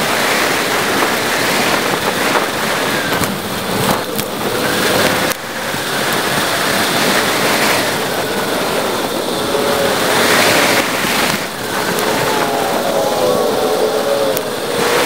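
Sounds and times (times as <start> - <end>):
bicycle tyre and road noise: 0.0 - 15.0
wind rushing on microphone: 0.0 - 15.0.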